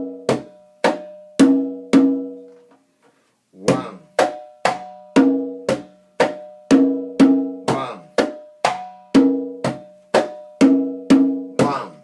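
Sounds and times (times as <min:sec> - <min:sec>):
conga played by hand: 0:00.0 - 0:02.7, 0:03.6 - 0:12.0.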